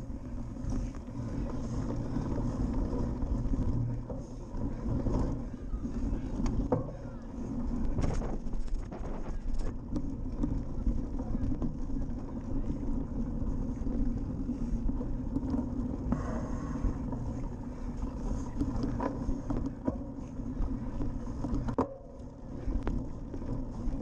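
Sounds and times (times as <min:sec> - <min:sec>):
bike rattling: 0:00.0 - 0:24.0
bike tyres rumbling on grass: 0:00.0 - 0:24.0.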